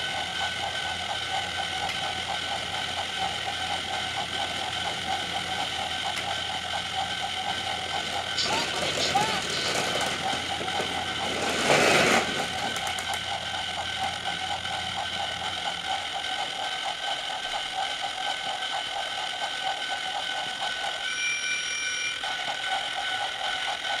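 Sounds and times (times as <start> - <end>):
toy train motor buzzing: 0.0 - 24.0.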